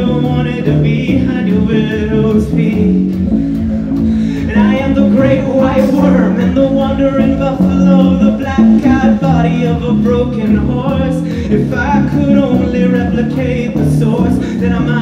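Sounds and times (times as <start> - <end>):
man singing: 0.0 - 3.4, 4.1 - 15.0
drums with steady beat: 0.0 - 15.0
keyboard: 0.0 - 15.0.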